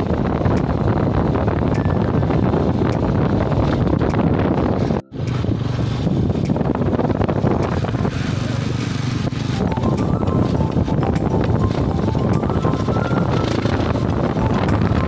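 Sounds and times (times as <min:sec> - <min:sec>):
vehicle engine and wind rumble: 0:00.0 - 0:15.0.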